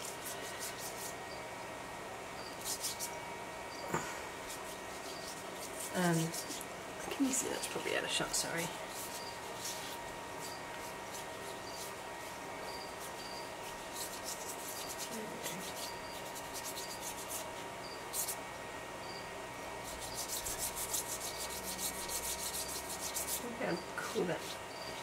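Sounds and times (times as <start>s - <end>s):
paintbrush scrubbing on paper: 0.0s - 1.2s, 2.6s - 3.1s, 4.4s - 18.4s, 19.8s - 25.0s.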